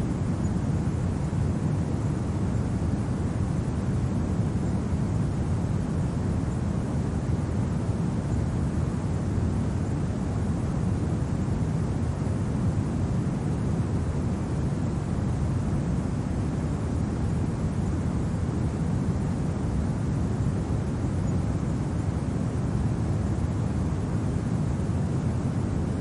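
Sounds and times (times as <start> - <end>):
deep wind noise: 0.0 - 26.0.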